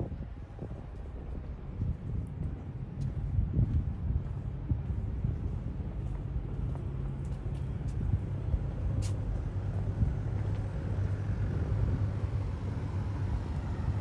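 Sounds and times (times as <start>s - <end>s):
vehicle engine humming: 0.2s - 14.0s.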